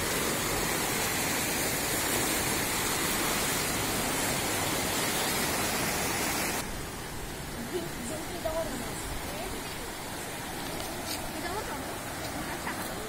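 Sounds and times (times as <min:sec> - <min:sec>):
floodwater rushing through channel: 0:00.0 - 0:13.0.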